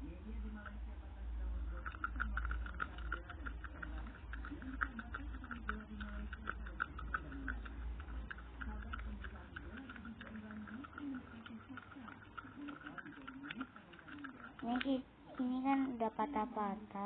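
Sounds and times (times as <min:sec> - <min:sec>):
spoon stirring slime: 0:01.7 - 0:15.5.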